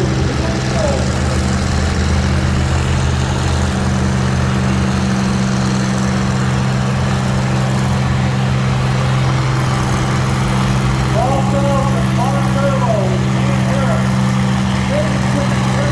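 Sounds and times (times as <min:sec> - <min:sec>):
engine idling: 0:00.0 - 0:15.9.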